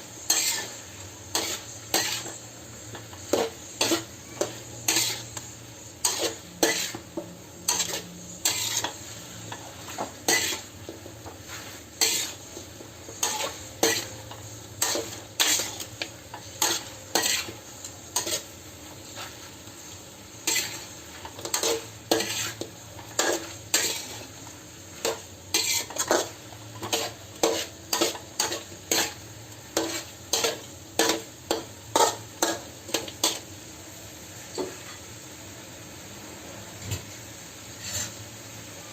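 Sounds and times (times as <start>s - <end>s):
food sizzling: 0.0s - 38.9s
spatula scraping and knocking pan: 0.2s - 33.4s, 37.8s - 38.2s.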